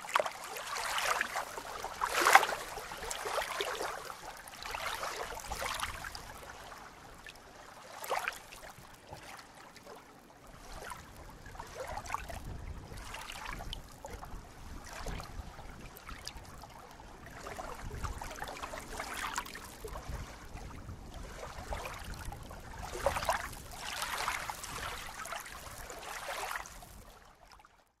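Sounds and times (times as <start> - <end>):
lake waves lapping: 0.0 - 27.6.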